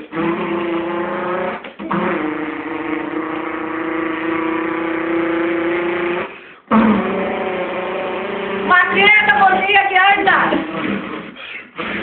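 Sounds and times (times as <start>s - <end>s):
person imitating car engine: 0.0s - 12.0s.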